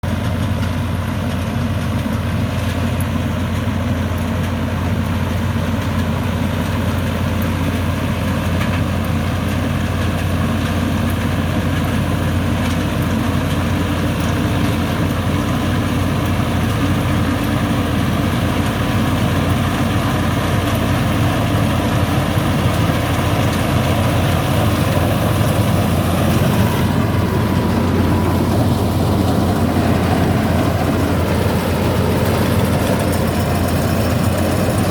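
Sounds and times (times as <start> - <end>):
tractor engine running loudly: 0.0 - 34.9.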